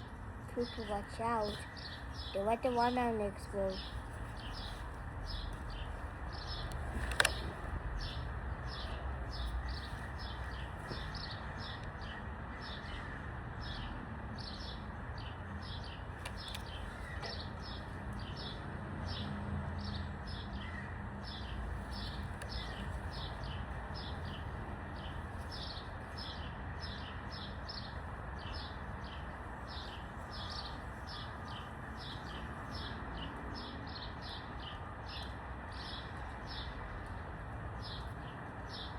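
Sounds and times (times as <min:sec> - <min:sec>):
outdoor background noise: 0:00.0 - 0:38.9.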